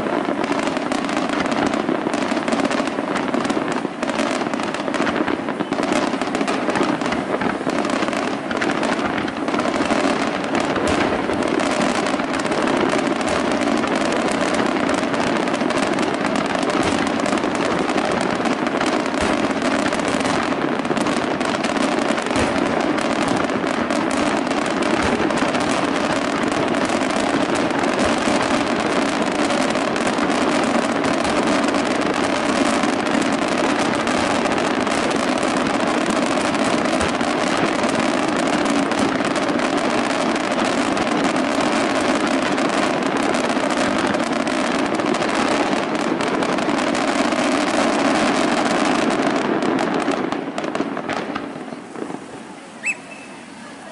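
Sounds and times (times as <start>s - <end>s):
firework shells bursting: 0.0s - 42.6s, 49.9s - 53.6s.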